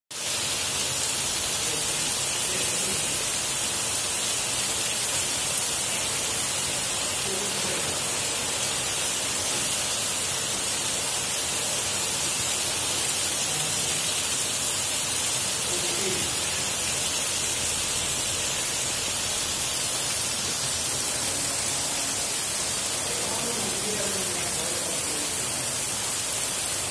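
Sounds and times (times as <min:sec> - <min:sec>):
heavy rain pouring: 0:00.1 - 0:26.9.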